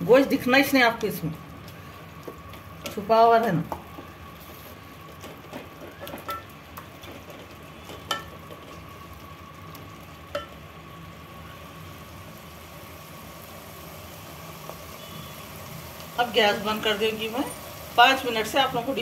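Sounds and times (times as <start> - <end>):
gravy sizzling in a pot: 0.0 - 19.0.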